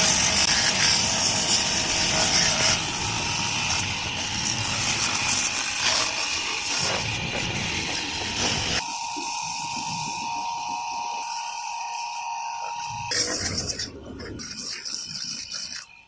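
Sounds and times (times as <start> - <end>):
pump running: 0.0 - 16.0
water jet hissing: 0.0 - 16.0.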